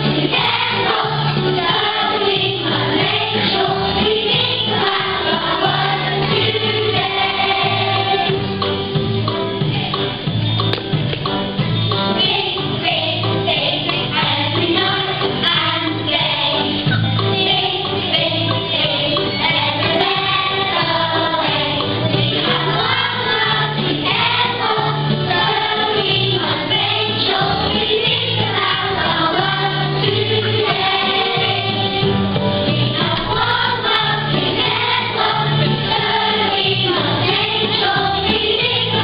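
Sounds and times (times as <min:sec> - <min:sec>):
children's choir singing: 0:00.0 - 0:10.4, 0:11.8 - 0:39.0
musical accompaniment with bass: 0:00.0 - 0:39.0.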